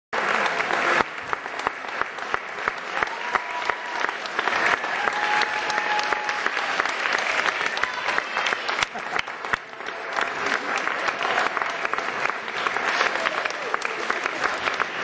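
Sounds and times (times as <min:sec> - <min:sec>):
audience applauding: 0:00.1 - 0:15.0.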